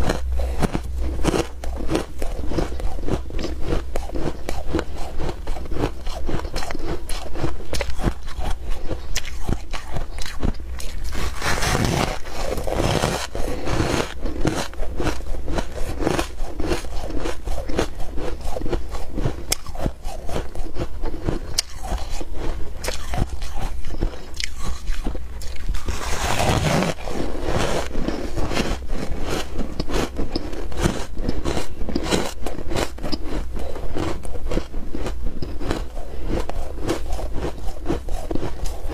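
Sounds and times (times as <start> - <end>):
ice crunching while chewed: 0.0 - 38.9
steady low hum: 0.0 - 38.9.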